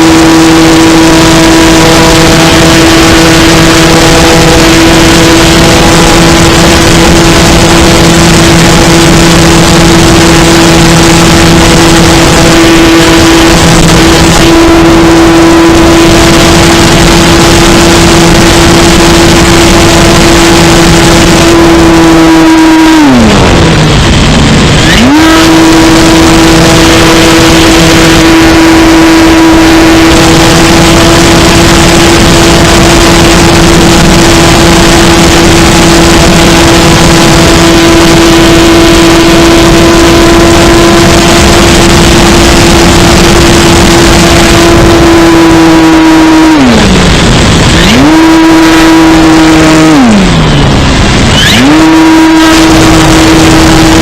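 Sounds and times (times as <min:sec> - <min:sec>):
model plane motor whine: 0:00.0 - 0:54.0.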